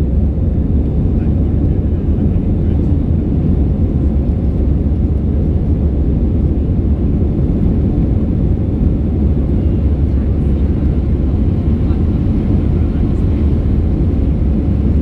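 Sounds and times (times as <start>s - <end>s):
aircraft engines low rumble: 0.0s - 15.0s.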